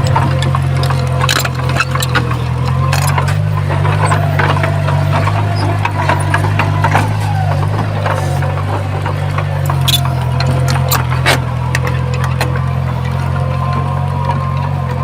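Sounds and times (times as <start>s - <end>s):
diesel earthmover running: 0.0s - 15.0s
rocks knocking and tumbling: 0.0s - 15.0s.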